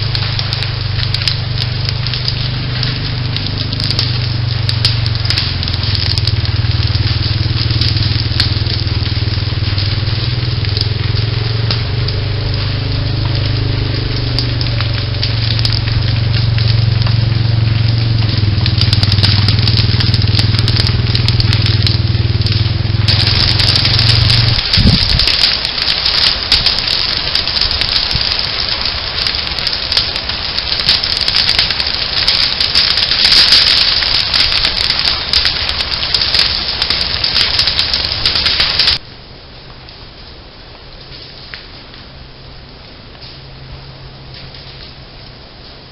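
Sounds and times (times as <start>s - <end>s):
fire crackling and popping: 0.0s - 45.9s
low rumble: 0.0s - 45.9s.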